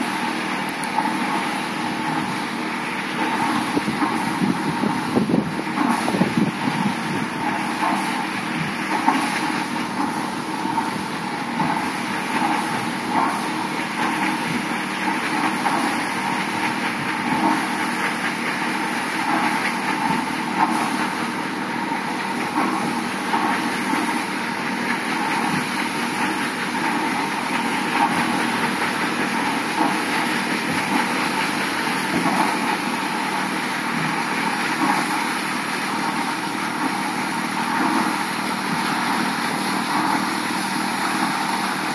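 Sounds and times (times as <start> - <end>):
paddle wheels churning water: 0.0 - 41.9
steam engine running: 0.0 - 41.9.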